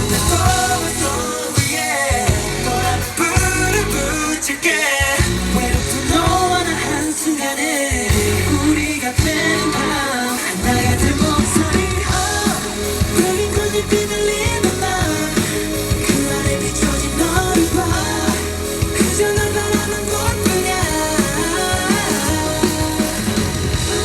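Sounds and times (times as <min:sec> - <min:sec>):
pop song with male vocals: 0:00.0 - 0:24.0.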